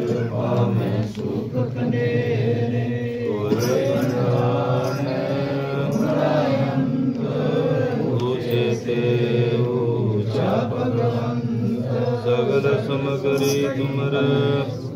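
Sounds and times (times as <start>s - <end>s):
group of voices chanting prayer: 0.0s - 14.9s.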